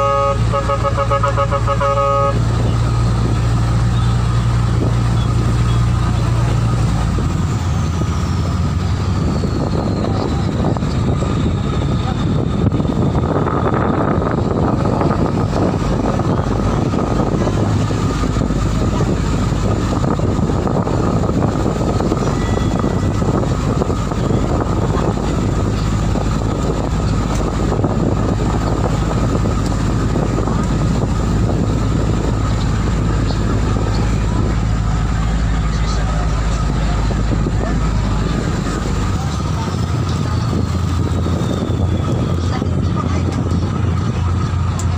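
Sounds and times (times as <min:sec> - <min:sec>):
boat engine droning: 0:00.0 - 0:44.9
rushing water: 0:00.0 - 0:44.9
wind: 0:00.0 - 0:44.9.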